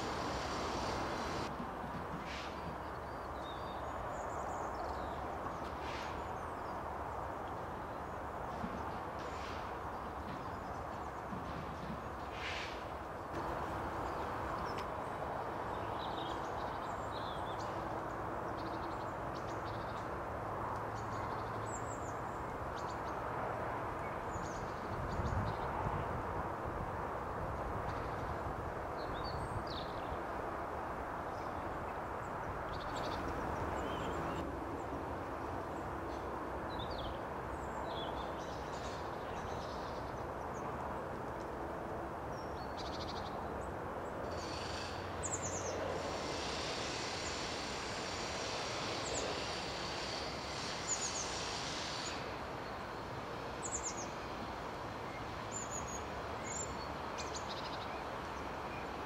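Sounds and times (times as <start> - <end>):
steady outdoor noise: 0.0 - 59.0.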